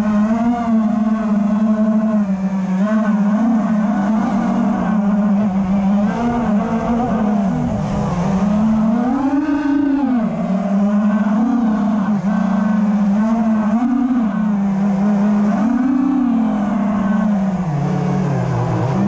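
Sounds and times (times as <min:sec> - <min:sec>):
quadcopter drone buzzing: 0:00.0 - 0:19.0.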